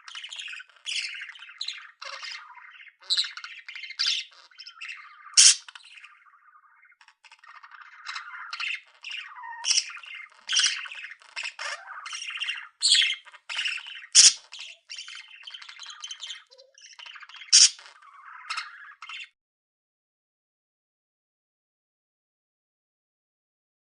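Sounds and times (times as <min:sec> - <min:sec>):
bird squawks: 0:00.0 - 0:19.4
small birds chattering and chirping: 0:00.0 - 0:19.4.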